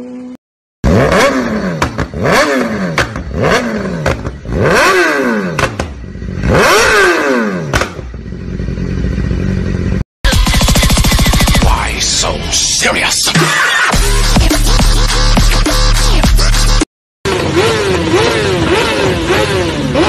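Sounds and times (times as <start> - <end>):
motorcycle engine revving: 0.0 - 12.6, 13.9 - 20.0.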